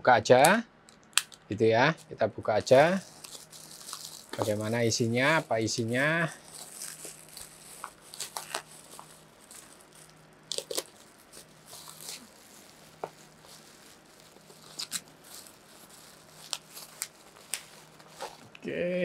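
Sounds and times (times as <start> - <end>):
plastic wrapping tearing and rustling: 2.7 - 18.6
sharp crackles: 2.7 - 18.6.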